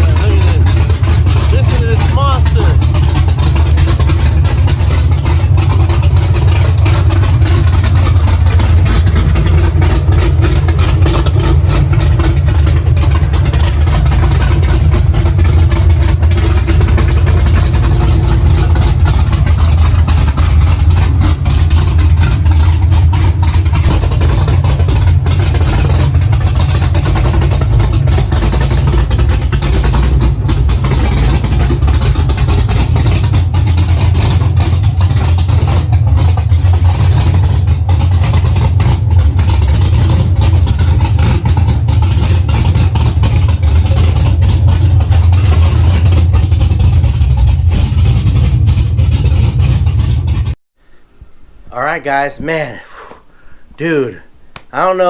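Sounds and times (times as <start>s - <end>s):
v eight engine choppy idle: 0.0s - 51.0s.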